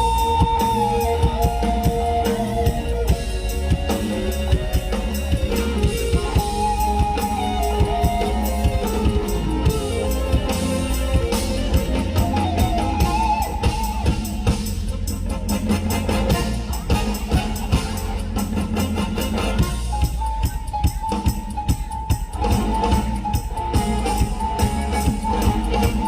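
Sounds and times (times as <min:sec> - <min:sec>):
bass: 0:00.0 - 0:26.0
drum kit beat: 0:00.0 - 0:26.0
electric guitar: 0:00.0 - 0:26.0
sliding melodic lead line: 0:00.0 - 0:26.0.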